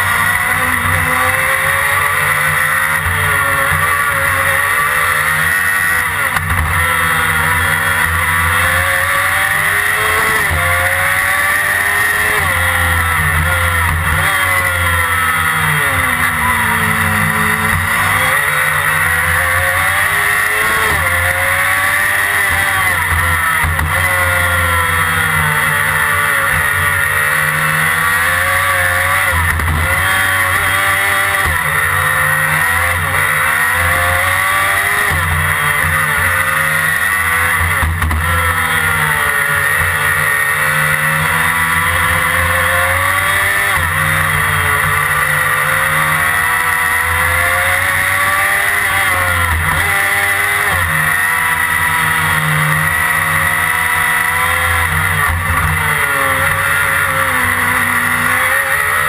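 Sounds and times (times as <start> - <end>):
racing car engine at high revs: 0.0 - 59.0.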